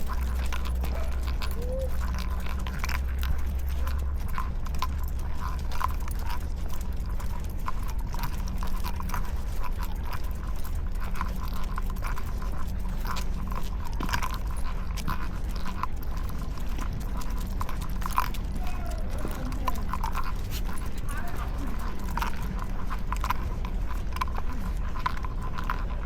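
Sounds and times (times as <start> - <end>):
footsteps and dog claws on pavement: 0.0 - 26.0
steady low rumble: 0.0 - 26.0.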